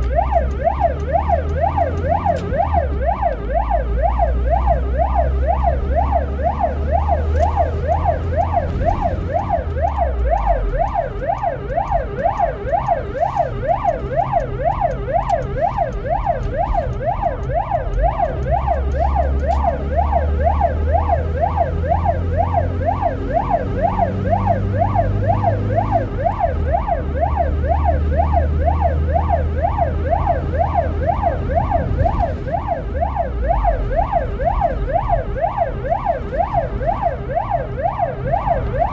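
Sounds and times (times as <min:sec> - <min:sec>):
ambulance siren wailing: 0:00.0 - 0:38.9
vehicle engine rumble: 0:00.0 - 0:38.9.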